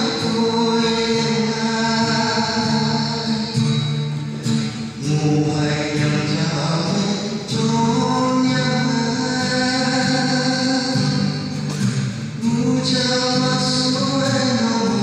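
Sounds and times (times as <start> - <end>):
man singing into microphone: 0.0 - 11.8, 12.4 - 15.0
guitar accompaniment: 0.0 - 15.0.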